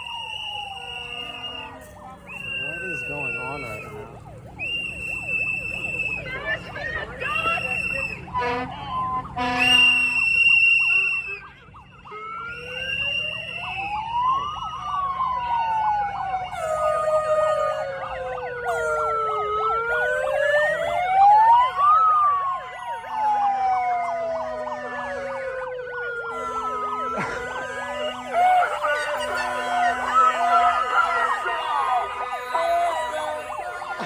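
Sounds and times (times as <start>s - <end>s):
siren wailing: 0.0s - 34.0s
siren yelping: 0.0s - 34.0s
two-tone siren: 0.0s - 34.0s.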